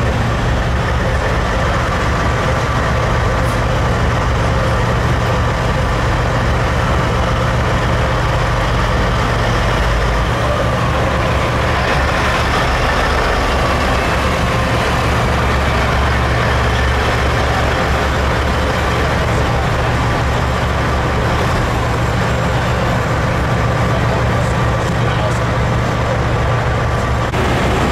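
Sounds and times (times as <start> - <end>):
heavy trucks idling: 0.0 - 27.9
truck diesel engine passing: 0.0 - 27.9.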